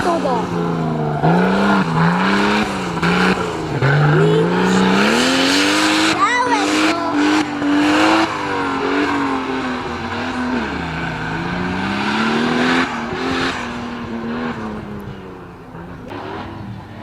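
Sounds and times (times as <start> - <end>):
engine revving hard: 0.0 - 15.0.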